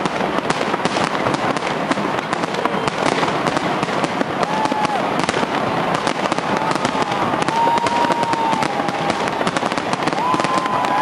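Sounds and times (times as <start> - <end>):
fireworks crackling and banging: 0.0 - 11.0
fireworks whistling: 0.0 - 11.0.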